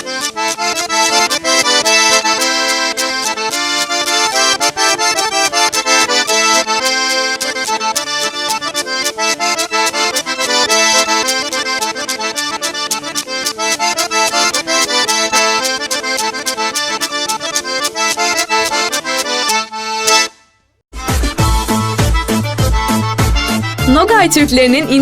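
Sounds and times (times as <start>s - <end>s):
fast accordion music: 0.0s - 25.0s.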